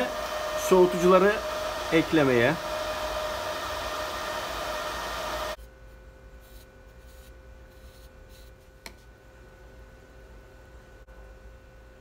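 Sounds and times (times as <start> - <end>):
power supply fan hiss: 0.0 - 12.0.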